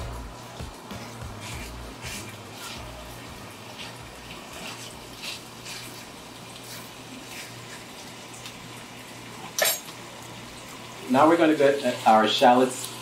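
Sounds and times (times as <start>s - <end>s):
sausage meat sizzling in pan: 0.0s - 13.0s.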